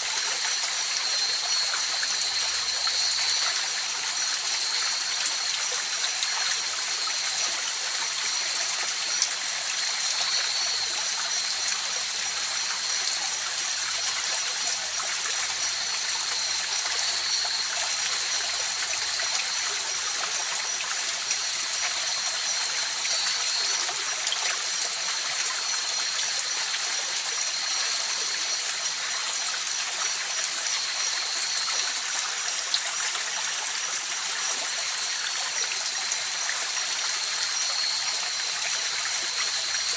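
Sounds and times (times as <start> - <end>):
night insects droning: 0.0 - 39.9.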